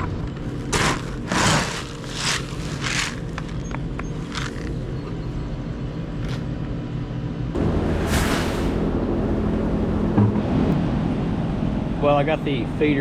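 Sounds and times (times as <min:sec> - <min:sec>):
farm vehicle engine running: 0:00.0 - 0:12.0.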